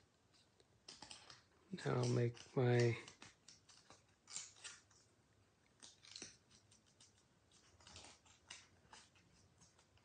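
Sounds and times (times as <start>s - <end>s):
paper rustling and crinkling: 0.3s - 5.1s, 5.8s - 10.0s.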